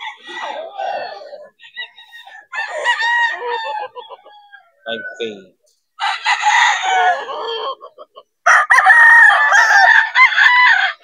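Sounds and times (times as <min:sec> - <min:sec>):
roosters crowing: 0:00.0 - 0:11.0.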